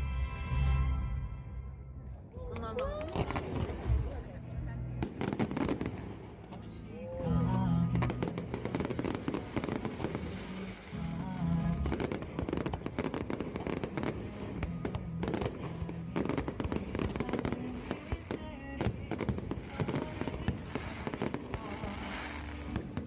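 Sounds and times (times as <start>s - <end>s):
fireworks bangs and crackling: 2.6s - 6.7s, 7.9s - 23.0s
music with held low notes: 3.6s - 23.0s.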